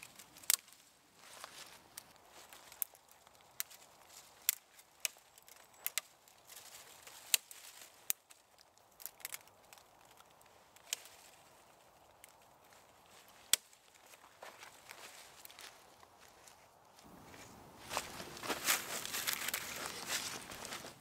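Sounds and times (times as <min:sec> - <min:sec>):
sticks snapping: 0:00.0 - 0:15.8, 0:18.4 - 0:20.6
dry leaves rustling: 0:00.0 - 0:21.0.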